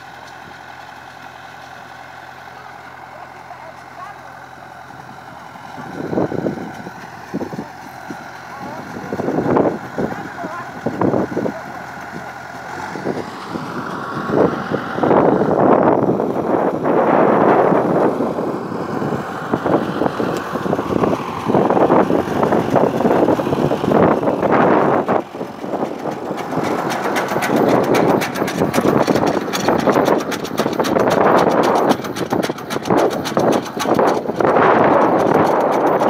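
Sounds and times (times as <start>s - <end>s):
tractor engine under load: 0.0s - 36.0s.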